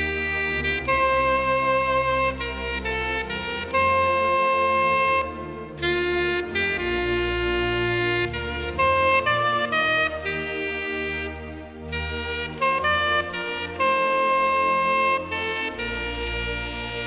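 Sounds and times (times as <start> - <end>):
soft low accompaniment: 0.0 - 17.0
soprano saxophone hymn melody: 0.0 - 17.0.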